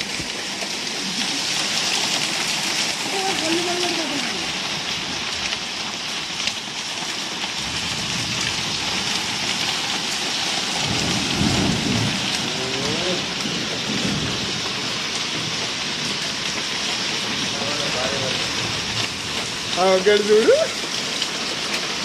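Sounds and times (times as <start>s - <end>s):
heavy rain and hail hissing: 0.0s - 22.0s.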